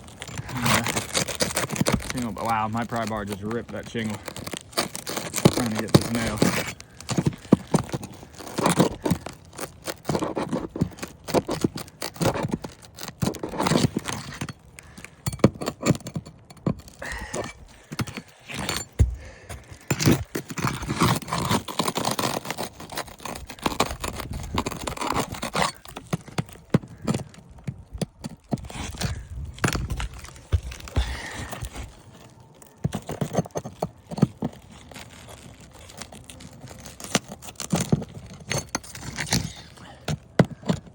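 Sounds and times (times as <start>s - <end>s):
pry bar scraping roof shingles: 0.0s - 40.9s.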